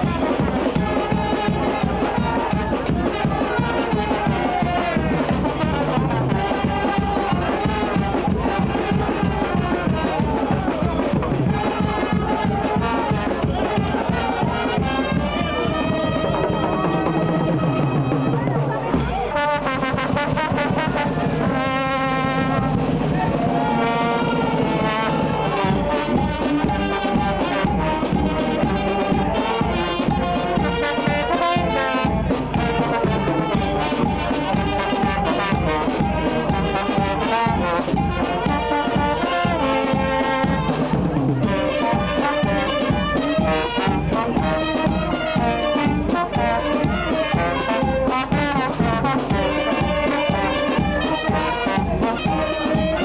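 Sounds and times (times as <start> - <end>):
brass band playing dance tune: 0.0 - 53.0.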